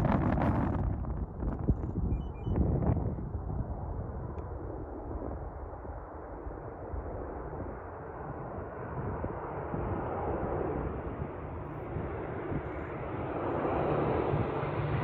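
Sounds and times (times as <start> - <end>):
distant turboprop aircraft drone: 0.0 - 15.0
wind rumble on microphone: 0.0 - 15.0.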